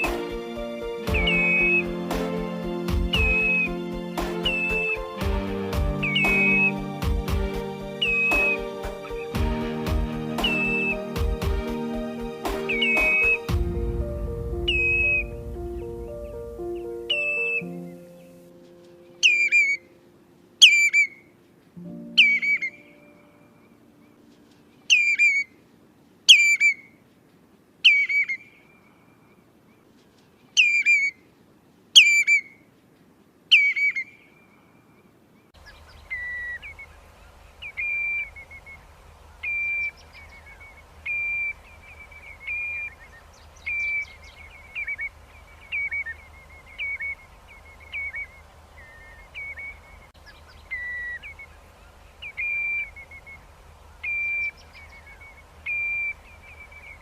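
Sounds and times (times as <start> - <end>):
recorded bird calls whistling: 0.0 - 9.4, 10.4 - 11.2, 12.6 - 18.6, 19.2 - 20.0, 20.6 - 21.3, 21.9 - 23.8, 24.8 - 25.6, 26.3 - 26.9, 27.8 - 28.8, 30.6 - 31.2, 32.0 - 32.6, 33.5 - 34.5, 35.6 - 57.0
recording hum and hiss: 0.0 - 57.0.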